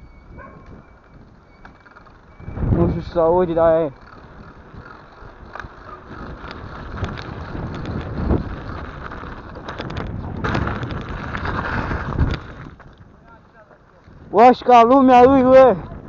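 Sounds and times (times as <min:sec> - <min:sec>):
wind rushing over microphone: 0:00.0 - 0:01.6, 0:02.2 - 0:16.0
bike knocking and rattling: 0:00.0 - 0:16.0
bike tyre noise: 0:00.0 - 0:16.0.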